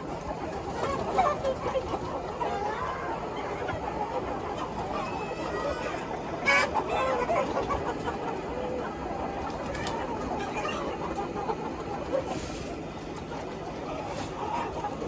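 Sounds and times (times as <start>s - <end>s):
chickens clucking and calling: 0.0s - 15.0s
chicken squawk: 0.1s - 15.0s.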